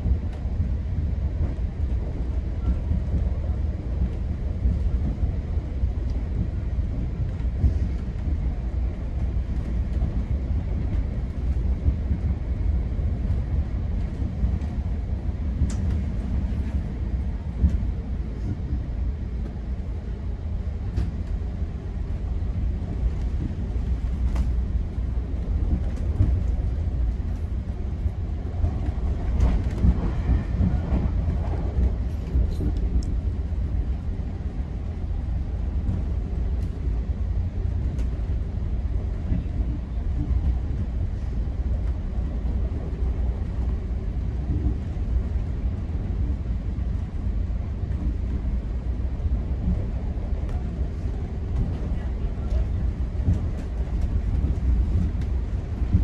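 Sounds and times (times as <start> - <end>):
train coach rumble: 0.0 - 56.0.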